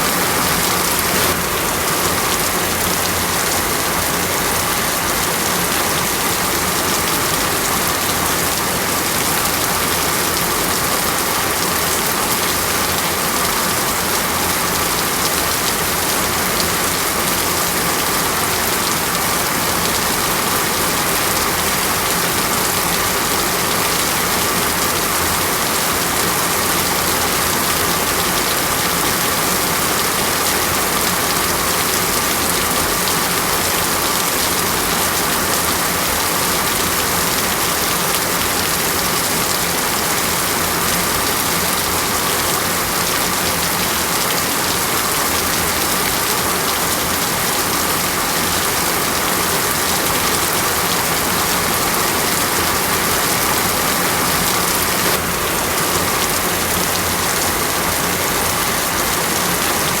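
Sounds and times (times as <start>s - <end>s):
rain pouring: 0.0s - 60.0s.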